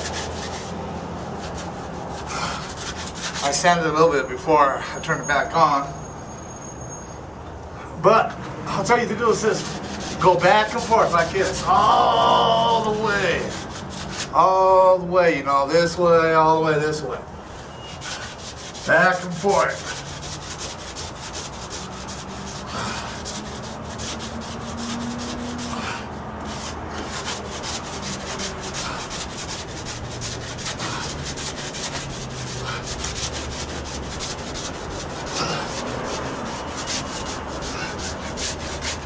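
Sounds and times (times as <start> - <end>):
hand sanding with sandpaper: 0.0 - 4.1, 8.8 - 14.6, 17.5 - 39.0.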